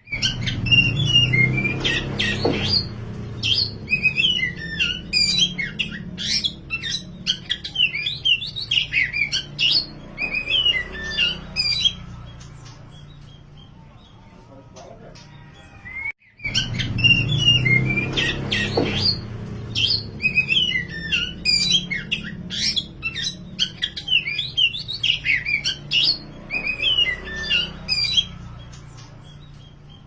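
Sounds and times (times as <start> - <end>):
songbird whistling song: 0.0 - 13.8, 15.6 - 30.0.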